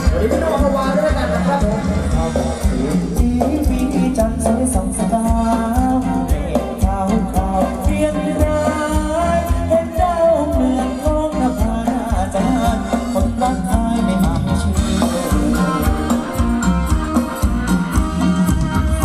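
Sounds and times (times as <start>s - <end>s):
person singing: 0.0s - 19.0s
steady percussion beat: 0.0s - 19.0s.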